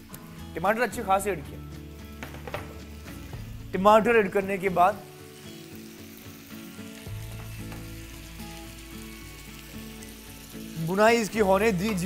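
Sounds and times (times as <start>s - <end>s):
chicken sizzling in a frying pan: 2.0s - 12.0s.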